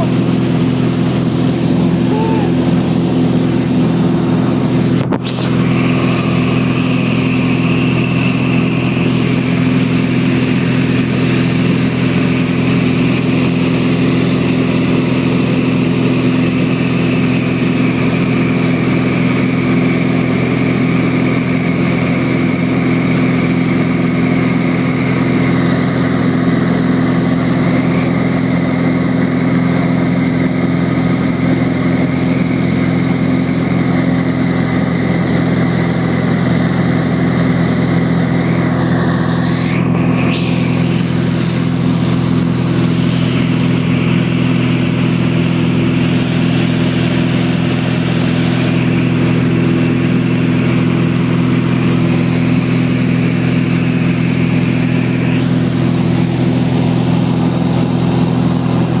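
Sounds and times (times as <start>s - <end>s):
airplane engine droning in cabin: 0.0s - 59.0s.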